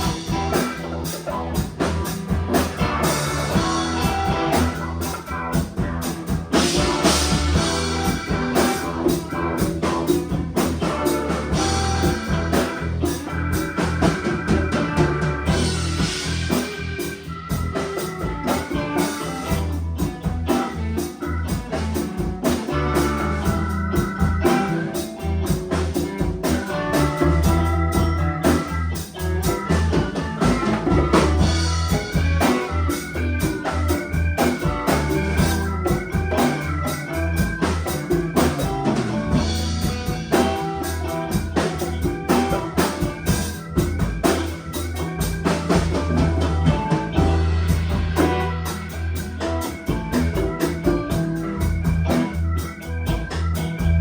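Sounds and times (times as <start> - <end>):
bass: 0.0 - 54.0
drum kit: 0.0 - 54.0
organ-like keyboard melody: 0.0 - 54.0.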